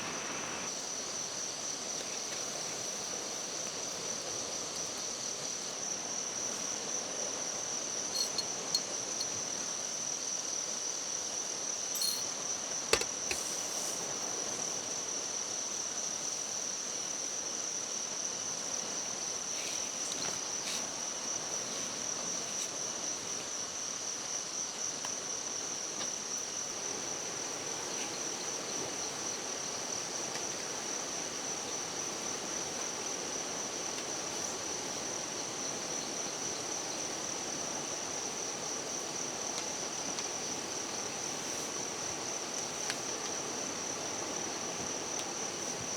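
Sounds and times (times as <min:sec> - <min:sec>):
faint forest hiss: 0:00.0 - 0:45.9
insects chirring: 0:00.0 - 0:45.9.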